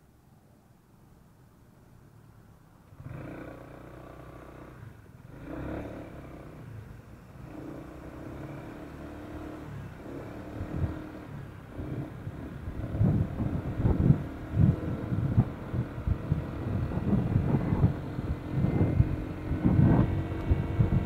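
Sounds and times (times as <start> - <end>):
scooter engine starting and running: 2.9 - 21.0.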